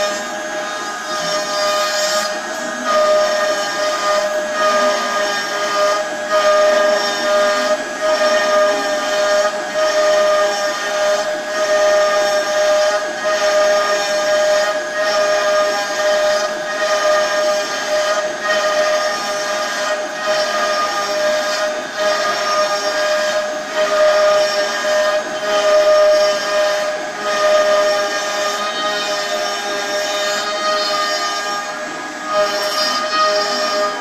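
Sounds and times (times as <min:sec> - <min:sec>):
router spindle whine: 0:00.0 - 0:34.0.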